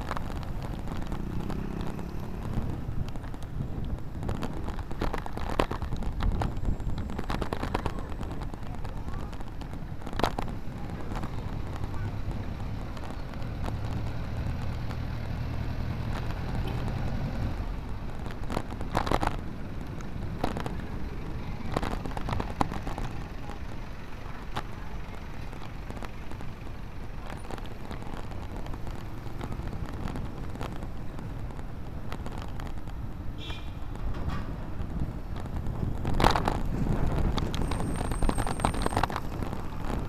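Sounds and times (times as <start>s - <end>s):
knocks from road bumps: 0.0s - 23.2s, 25.5s - 40.0s
wind and road noise: 0.0s - 40.0s.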